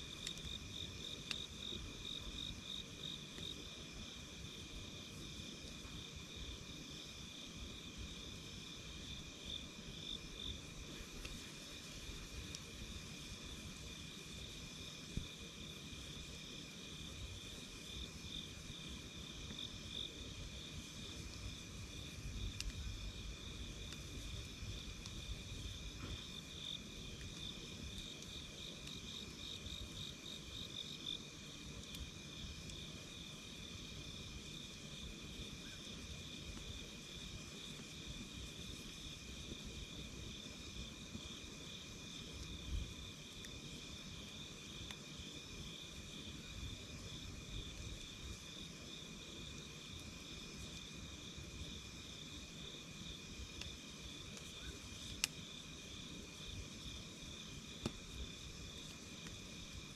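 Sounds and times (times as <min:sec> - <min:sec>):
campfire popping: 0:00.0 - 0:59.9
night insects chirring: 0:00.0 - 0:59.9.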